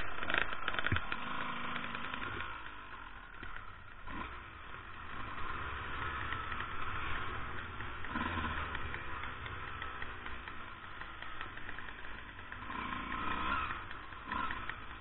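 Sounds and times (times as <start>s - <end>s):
dirt bike engine at low revs: 0.0s - 15.0s.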